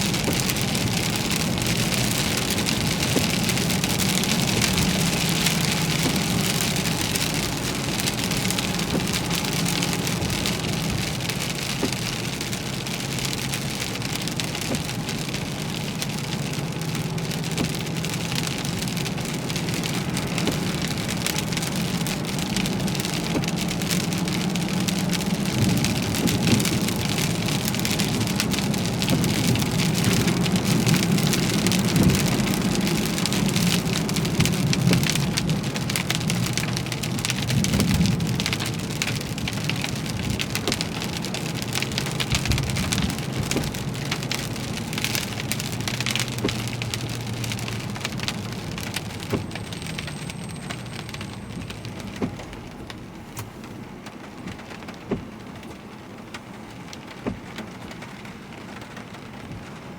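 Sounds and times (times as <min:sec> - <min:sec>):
heavy rain on a car: 0:00.0 - 0:59.9
road and engine drone: 0:00.0 - 0:59.9.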